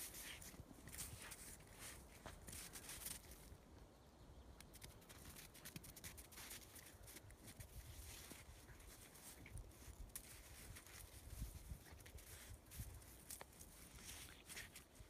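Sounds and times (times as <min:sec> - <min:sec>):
snow crunching and rustling: 0:00.0 - 0:03.5, 0:06.2 - 0:15.0.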